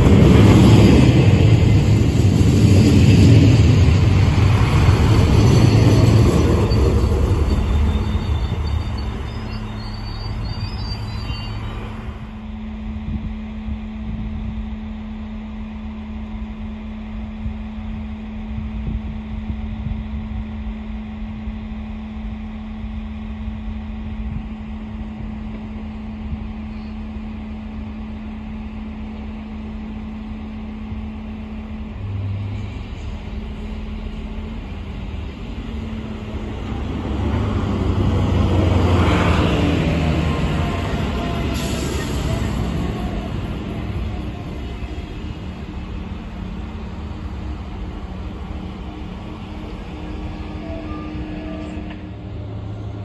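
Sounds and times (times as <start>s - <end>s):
diesel train passing: 0.0s - 53.0s.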